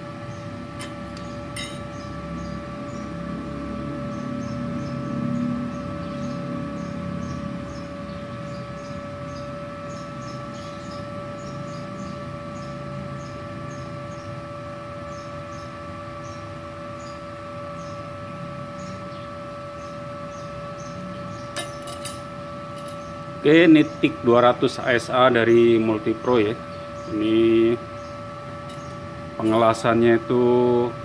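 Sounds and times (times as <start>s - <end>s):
welder fan humming with whine: 0.0s - 31.0s.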